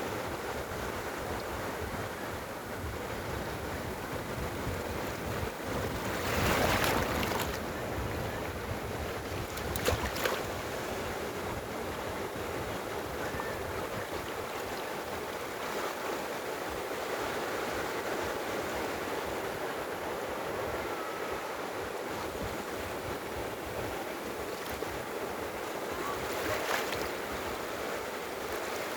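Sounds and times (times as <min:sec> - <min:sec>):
sea waves washing on shore: 0:00.3 - 0:28.9.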